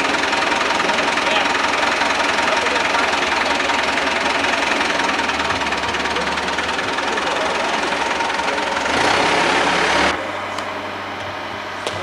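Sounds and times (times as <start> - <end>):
engine running with hiss: 0.0 - 12.0.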